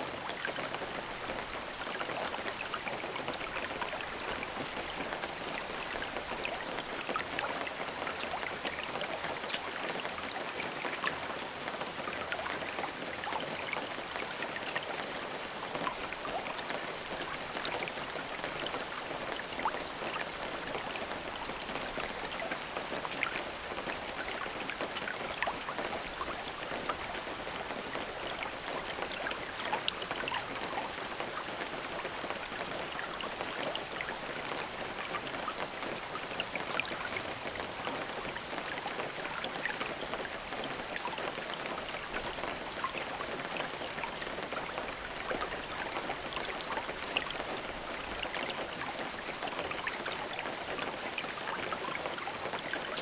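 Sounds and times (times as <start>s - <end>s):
raindrops ticking on a surface: 0.0s - 53.0s
steady rain falling: 0.0s - 53.0s.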